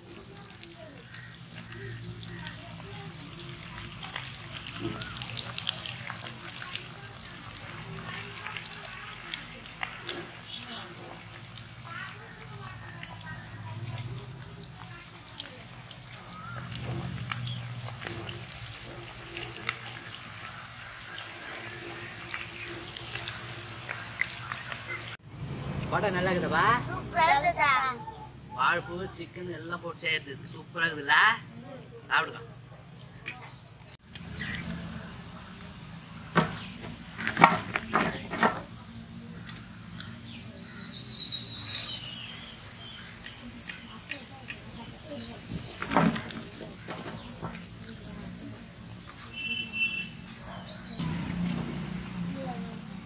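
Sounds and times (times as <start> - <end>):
birds chirping: 0.0 - 25.2, 26.5 - 51.1
batter deep-frying in oil: 0.0 - 53.0.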